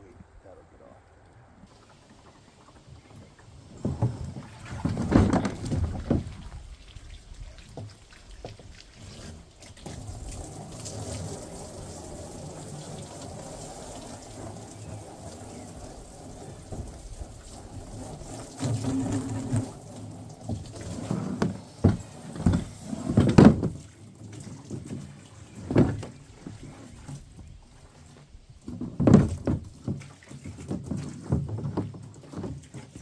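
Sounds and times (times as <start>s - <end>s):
water filling a container: 1.7s - 33.0s.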